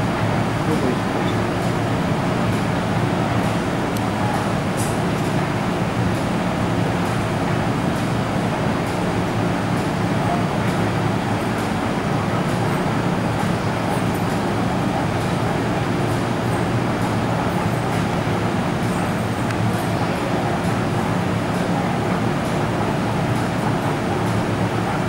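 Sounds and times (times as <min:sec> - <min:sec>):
machinery hum and rush: 0:00.0 - 0:25.0.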